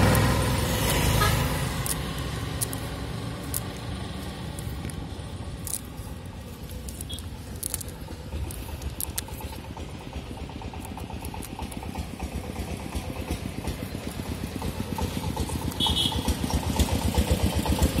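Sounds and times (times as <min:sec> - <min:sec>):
engine low throb: 0:00.0 - 0:18.0.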